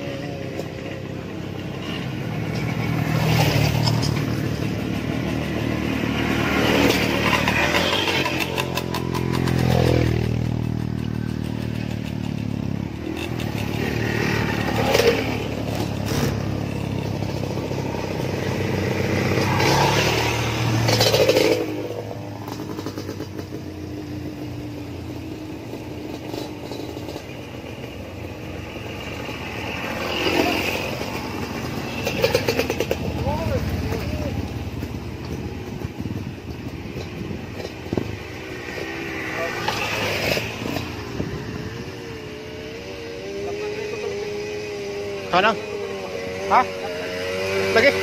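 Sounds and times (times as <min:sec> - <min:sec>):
dirt bikes riding past: 0:00.0 - 0:48.0.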